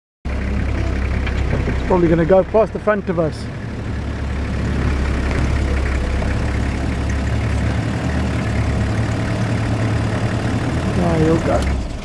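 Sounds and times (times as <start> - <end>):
vehicle engine idling: 0.2 - 12.0.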